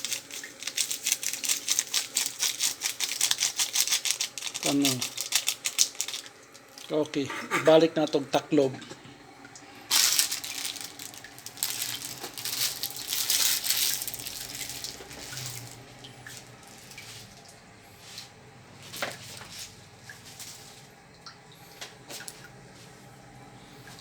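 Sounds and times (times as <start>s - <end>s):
water boiling in a pot: 0.0s - 24.0s.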